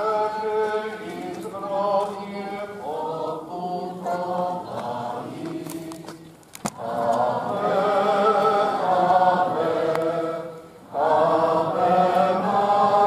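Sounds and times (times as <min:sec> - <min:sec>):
crowd singing a hymn: 0:00.0 - 0:13.0.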